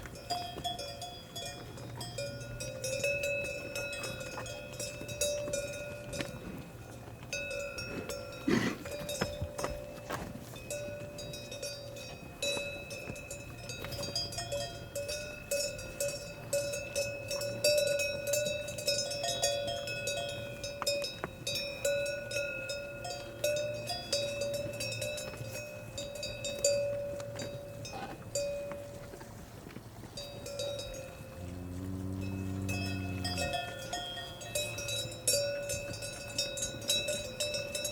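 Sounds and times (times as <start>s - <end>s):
cowbells clanking: 0.0s - 37.9s.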